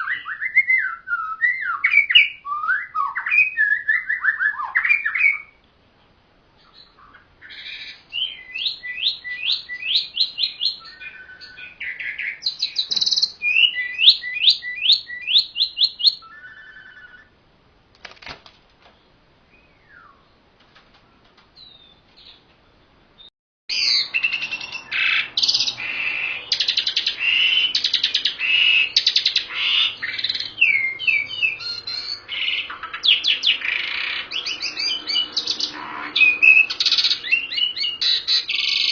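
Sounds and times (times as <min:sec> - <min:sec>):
birds singing fast high notes: 0:00.0 - 0:05.6, 0:06.6 - 0:17.4, 0:23.7 - 0:38.9.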